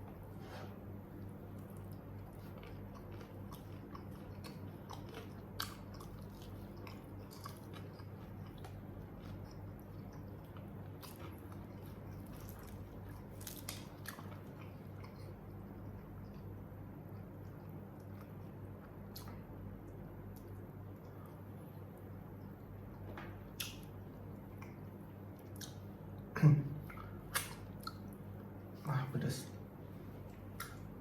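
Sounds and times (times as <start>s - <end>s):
chewing crispy fried chicken: 0.9s - 28.7s.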